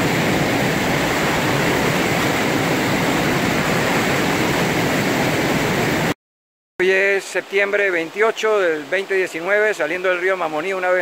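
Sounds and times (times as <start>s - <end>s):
whitewater rushing over rocks: 0.0s - 6.1s, 6.9s - 11.0s.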